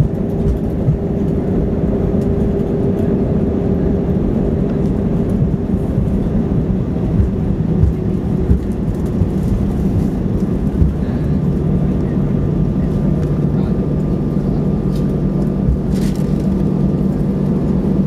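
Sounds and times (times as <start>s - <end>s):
low rumble of engines and wheels: 0.0s - 18.0s
steady engine tone: 0.0s - 18.0s.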